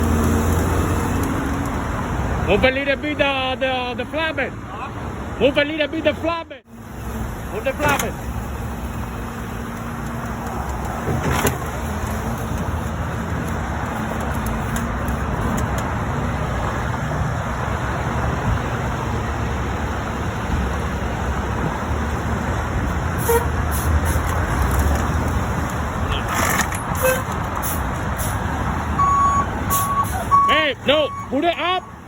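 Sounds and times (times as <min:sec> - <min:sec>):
highway traffic noise: 0:00.0 - 0:32.0.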